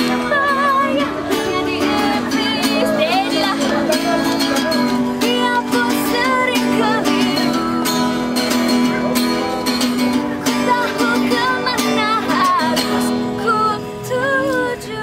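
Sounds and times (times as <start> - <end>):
plucked guitar: 0.0 - 15.0.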